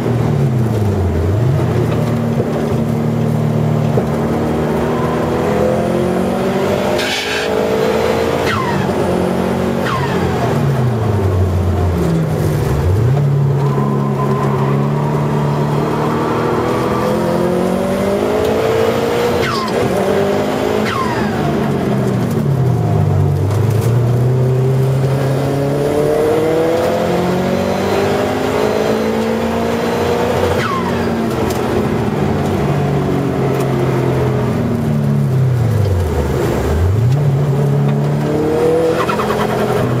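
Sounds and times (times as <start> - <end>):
car engine under load: 0.0 - 40.0.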